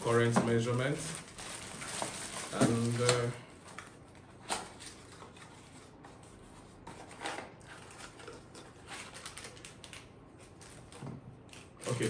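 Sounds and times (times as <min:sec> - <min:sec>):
plastic wrapping crinkling: 0:00.0 - 0:05.9, 0:07.6 - 0:12.0.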